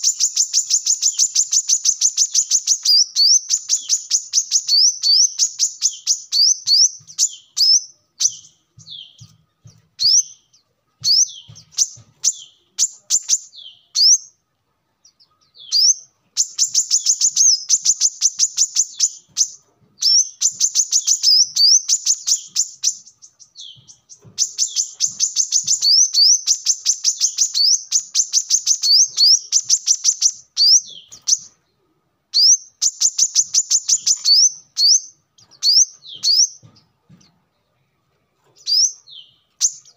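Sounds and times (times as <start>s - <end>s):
bird singing high thin chirps: 0.0s - 14.4s, 15.0s - 31.6s, 32.3s - 36.8s, 38.6s - 39.9s.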